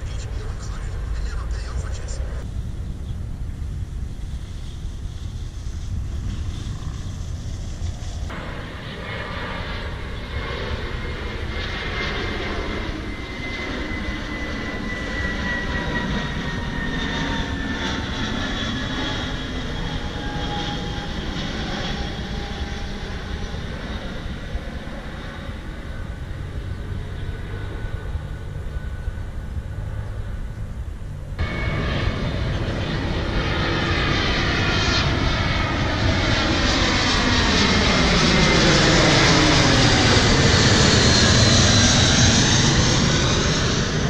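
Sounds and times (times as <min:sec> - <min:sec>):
airliner engine whine: 0:00.0 - 0:44.0
steady low rumble: 0:00.0 - 0:44.0.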